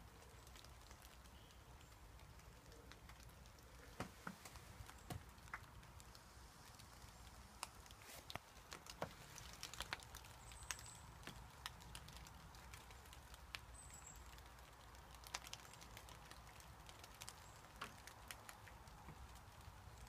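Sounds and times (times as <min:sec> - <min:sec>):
sharp ticks and crackles: 0:00.0 - 0:20.0.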